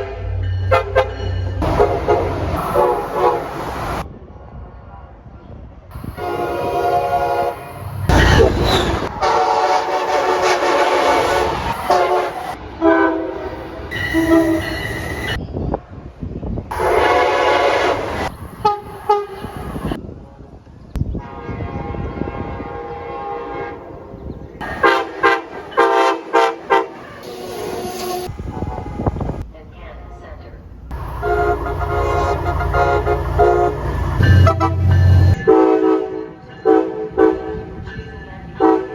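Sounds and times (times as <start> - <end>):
short train horn blasts: 0.0 - 3.6, 6.0 - 15.3, 16.7 - 19.9, 21.2 - 37.7
train horn chords: 0.0 - 4.0, 6.0 - 15.2, 16.7 - 19.9, 21.2 - 37.8, 38.6 - 38.9.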